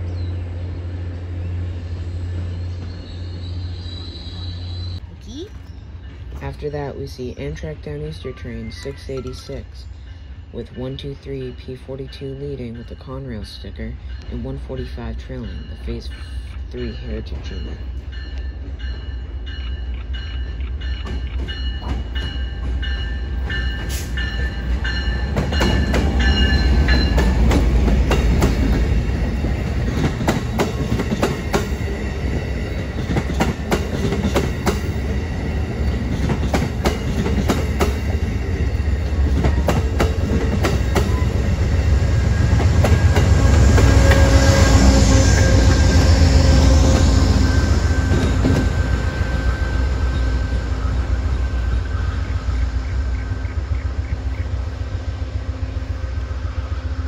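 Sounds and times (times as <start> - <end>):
diesel locomotive rumble: 0.0 - 57.0
train rumbling past: 0.0 - 57.0.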